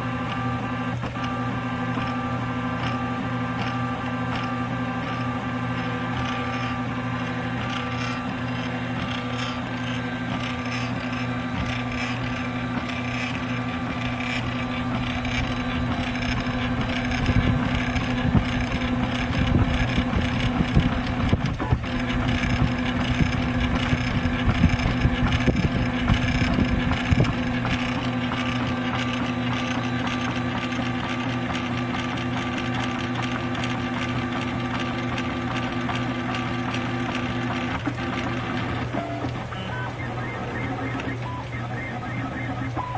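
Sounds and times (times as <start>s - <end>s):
printer stepper motors humming: 0.0s - 42.9s.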